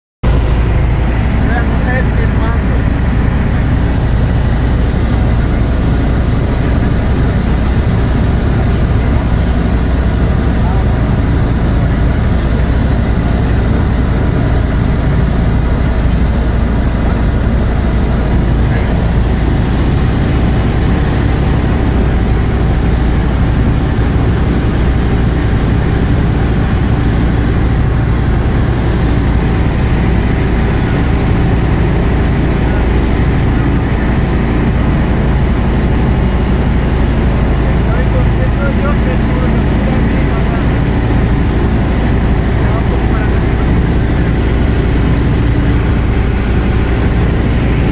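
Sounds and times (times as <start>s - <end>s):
light aircraft engine drone: 0.2s - 47.9s.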